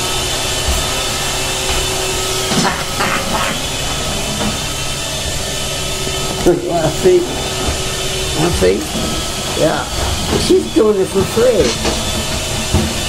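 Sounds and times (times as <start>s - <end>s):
robot vacuum humming: 0.0s - 13.0s.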